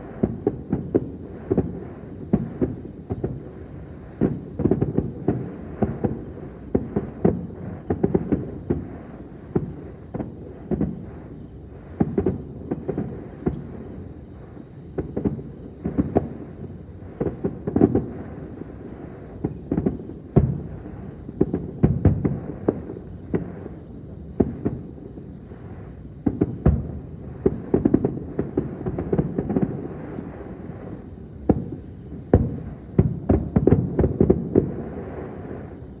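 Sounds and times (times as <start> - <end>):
fireworks booms and cracks: 0.0 - 36.0.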